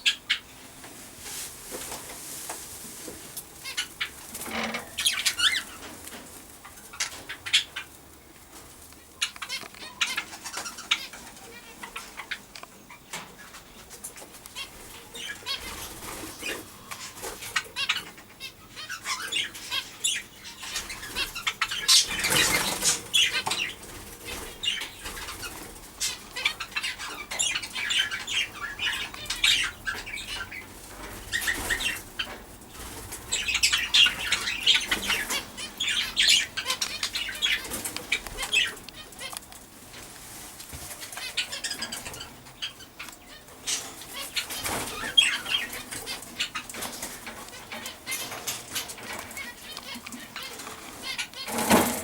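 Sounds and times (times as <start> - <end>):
bird chatter: 3.6 - 40.1, 40.9 - 52.0.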